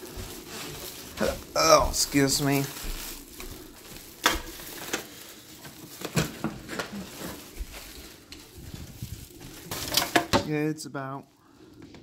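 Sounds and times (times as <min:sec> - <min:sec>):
plastic bag rustling: 0:00.0 - 0:11.8.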